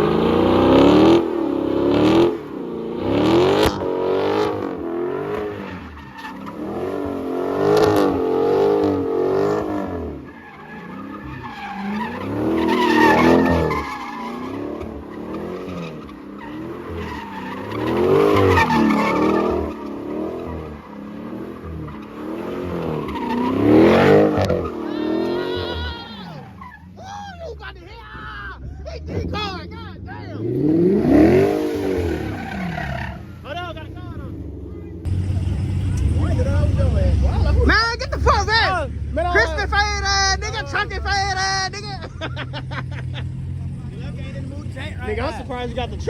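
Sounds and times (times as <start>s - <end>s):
tyres squealing: 0.0s - 34.3s, 35.0s - 46.0s
car engine revving: 0.0s - 46.0s.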